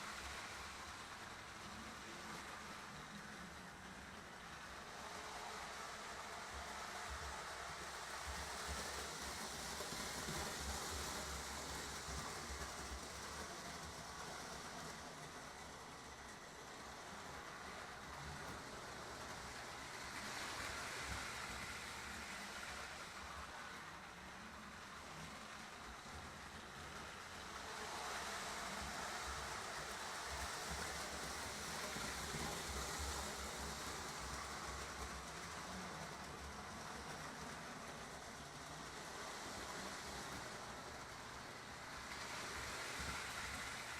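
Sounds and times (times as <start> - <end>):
model trains whirring and rumbling: 0.0 - 43.9.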